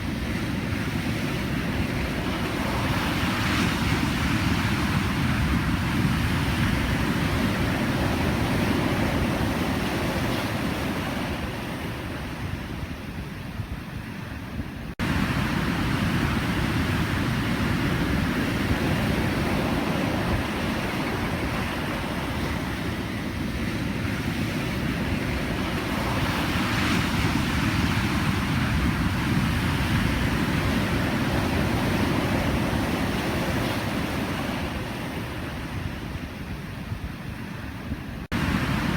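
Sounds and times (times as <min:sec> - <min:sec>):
ocean waves breaking: 0:00.0 - 0:13.8, 0:14.8 - 0:38.9.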